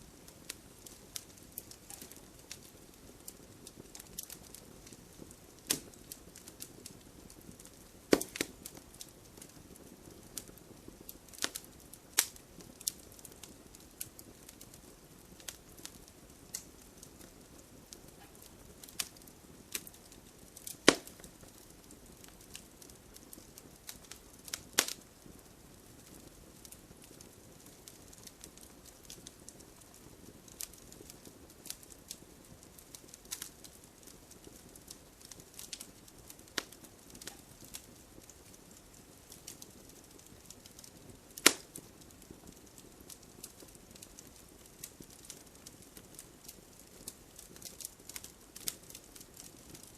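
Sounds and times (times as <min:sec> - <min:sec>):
faint steady hiss: 0:00.0 - 0:49.9
wood fire crackling: 0:00.0 - 0:49.9.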